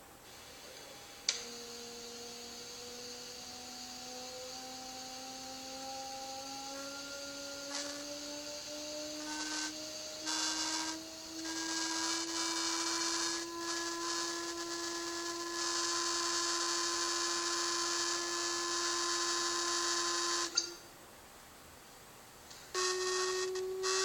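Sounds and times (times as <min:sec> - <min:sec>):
sustained buzzing drone: 0:00.0 - 0:20.8, 0:22.7 - 0:24.0
low hiss: 0:00.0 - 0:24.0.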